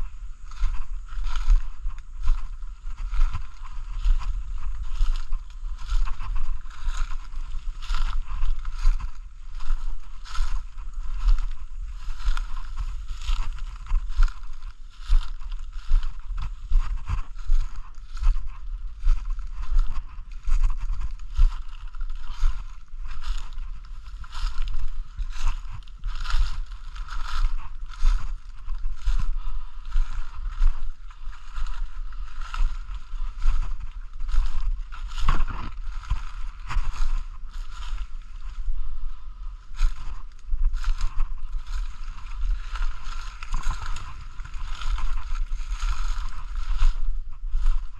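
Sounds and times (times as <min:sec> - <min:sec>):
brushing past undergrowth: 0:00.0 - 0:47.9
footsteps crunching through dry leaves: 0:00.0 - 0:47.9
handheld camera rumble: 0:00.0 - 0:47.9.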